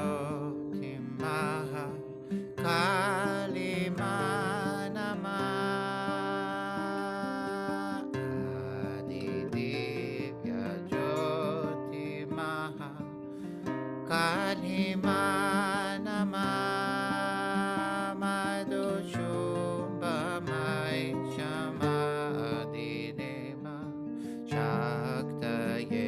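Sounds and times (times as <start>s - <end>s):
man singing a slow chant: 0.0s - 13.0s, 14.1s - 26.0s
acoustic guitar: 0.0s - 26.0s.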